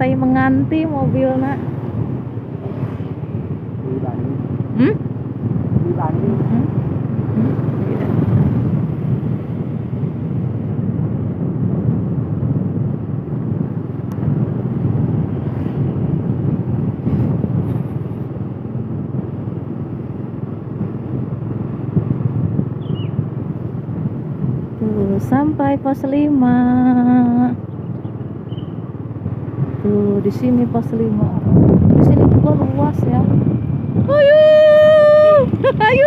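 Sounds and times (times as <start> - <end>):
vehicle road and engine noise: 0.0 - 36.0.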